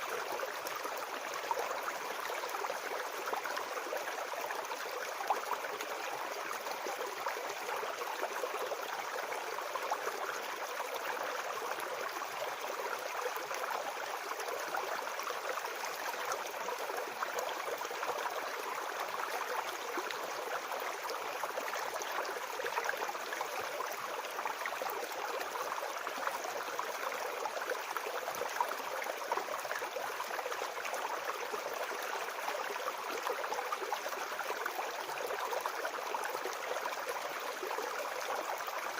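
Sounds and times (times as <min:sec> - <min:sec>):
forest brook babbling: 0:00.0 - 0:38.9.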